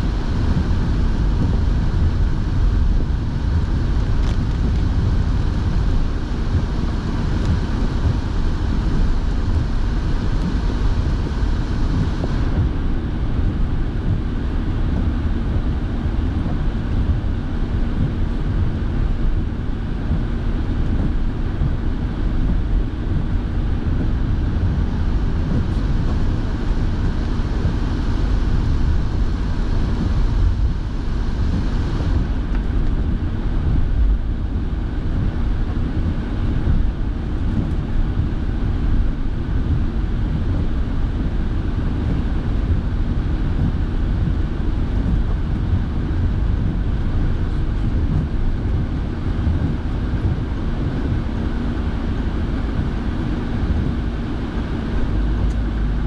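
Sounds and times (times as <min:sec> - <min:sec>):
heater fan blowing: 0:00.0 - 0:56.0
road and engine rumble: 0:00.0 - 0:56.0.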